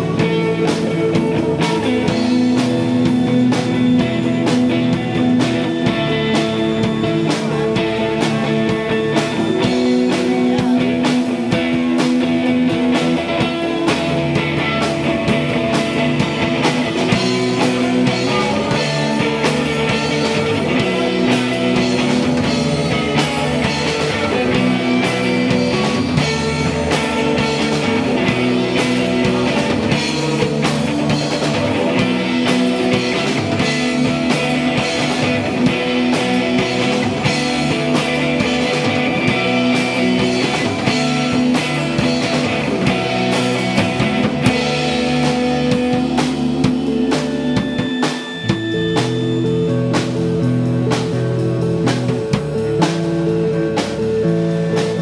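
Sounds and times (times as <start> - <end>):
bass guitar: 0.0 - 55.0
drum kit beating: 0.0 - 55.0
electric guitars: 0.0 - 55.0.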